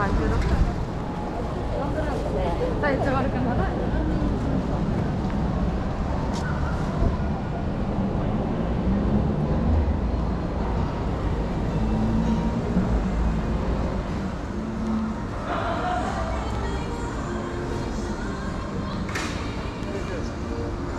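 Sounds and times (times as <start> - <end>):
low rumble of city traffic: 0.0 - 20.9.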